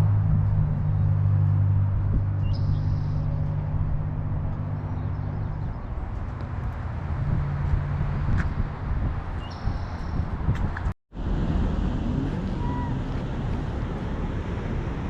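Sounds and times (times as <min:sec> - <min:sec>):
road and tyre noise: 0:00.0 - 0:15.0
van engine hum: 0:00.0 - 0:15.0.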